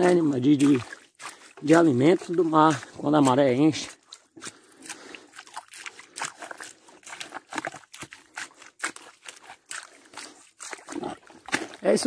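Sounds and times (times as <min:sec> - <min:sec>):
faint wet trickle: 0:00.0 - 0:12.0
wet mud crackling: 0:00.0 - 0:12.0.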